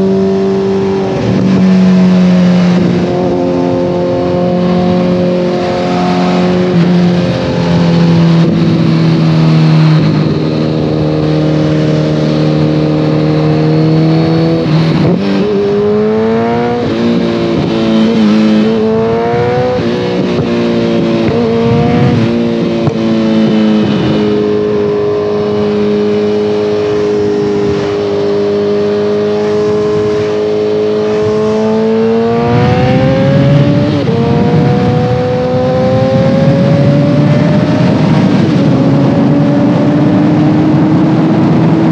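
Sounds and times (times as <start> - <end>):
motorcycle engine revving through gears: 0.0 - 41.9.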